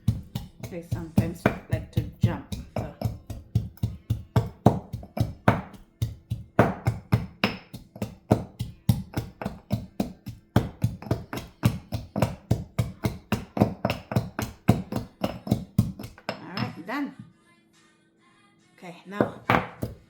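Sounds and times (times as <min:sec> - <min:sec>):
garlic smasher pounding: 0:00.0 - 0:16.6.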